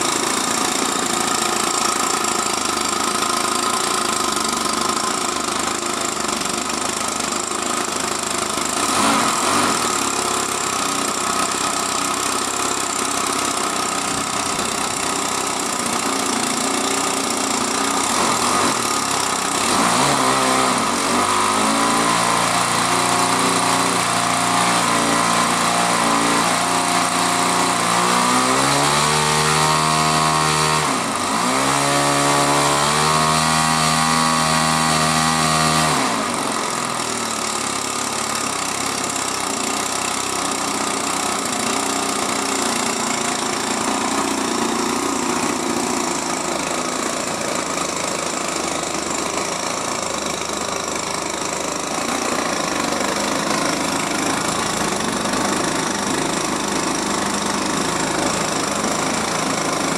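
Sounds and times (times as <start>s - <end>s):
model airplane engine revving: 0.0s - 59.9s.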